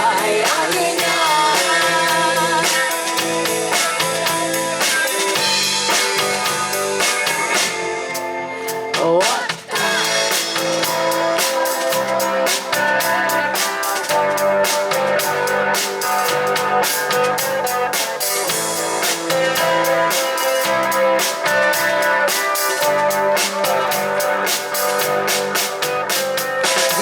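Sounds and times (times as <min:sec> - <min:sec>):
bass guitar: 0:00.0 - 0:27.0
drum kit steady beat: 0:00.0 - 0:27.0
electric guitars: 0:00.0 - 0:27.0.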